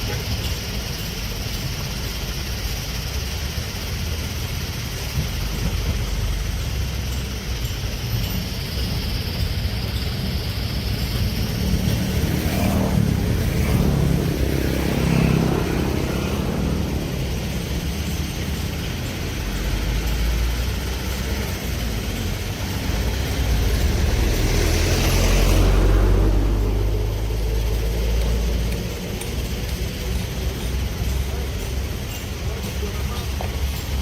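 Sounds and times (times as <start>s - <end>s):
diesel excavator engine rumble: 0.0s - 34.0s.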